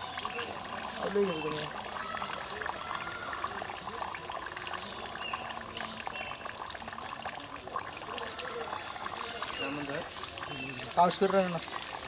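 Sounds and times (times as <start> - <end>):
water dripping off a net: 0.0 - 12.0.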